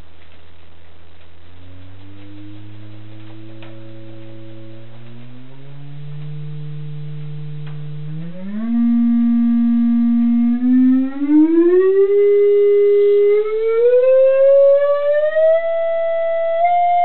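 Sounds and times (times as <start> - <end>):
sine wave test tone sweeping up: 1.3 - 17.0.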